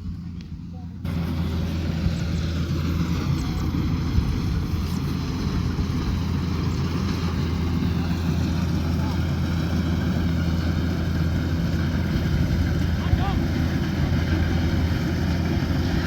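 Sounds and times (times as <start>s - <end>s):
diesel engine running under load: 0.0s - 16.0s
threshing machinery noise: 0.0s - 16.0s.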